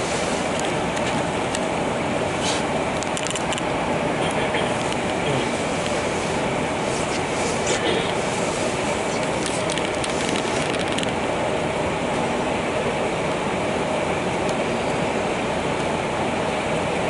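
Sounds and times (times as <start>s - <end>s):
vehicle running noise from inside: 0.0s - 17.0s.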